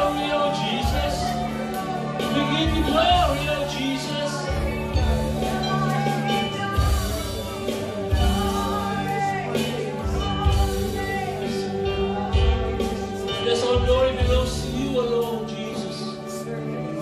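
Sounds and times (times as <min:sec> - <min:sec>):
person singing: 0:00.0 - 0:17.0
worship band playing: 0:00.0 - 0:17.0.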